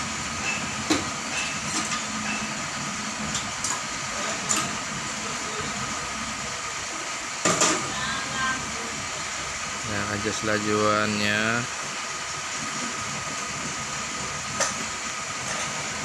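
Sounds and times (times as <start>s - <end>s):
motor hum and hiss: 0.0s - 16.0s.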